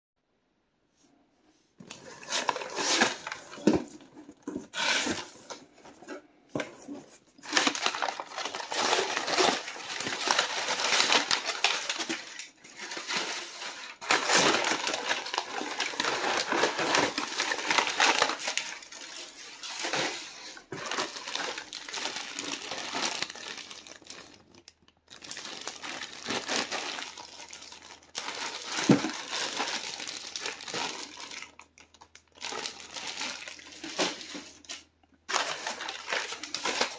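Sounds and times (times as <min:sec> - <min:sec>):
plastic bag and paper crinkling: 0:01.8 - 0:36.9.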